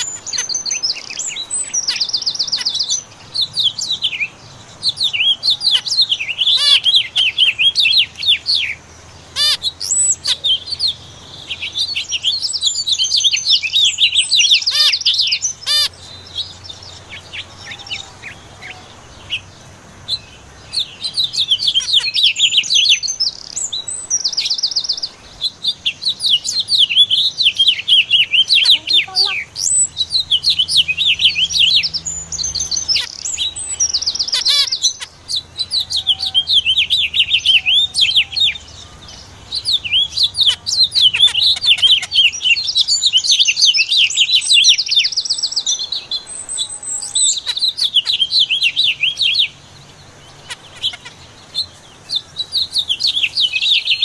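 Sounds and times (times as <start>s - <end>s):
finches chirping and twittering: 0.0s - 54.0s.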